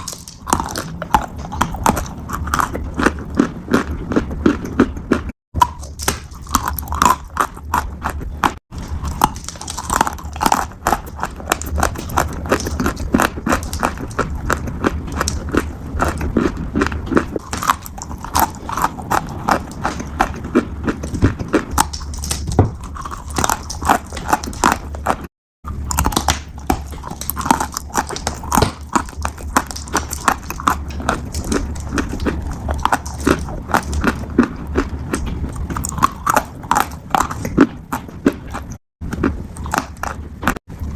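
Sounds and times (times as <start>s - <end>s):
piglet crunching food: 0.0s - 40.9s.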